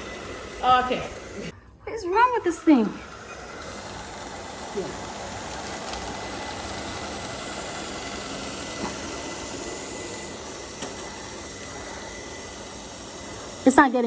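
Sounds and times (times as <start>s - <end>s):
robot vacuum whirring: 0.0s - 14.0s.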